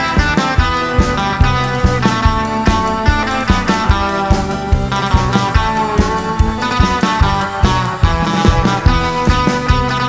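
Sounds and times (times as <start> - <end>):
steady drum beat: 0.0 - 10.0
surf rock electric guitar: 0.0 - 10.0.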